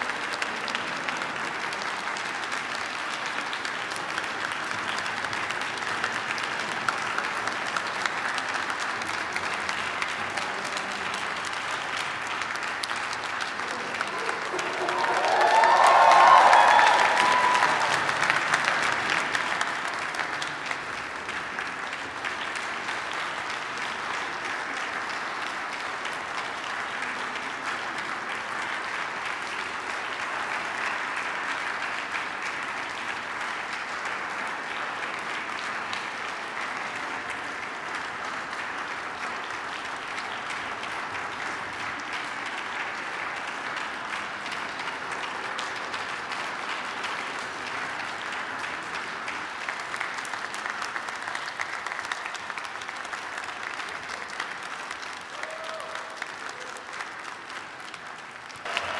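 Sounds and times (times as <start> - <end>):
large audience applauding: 0.0 - 58.9.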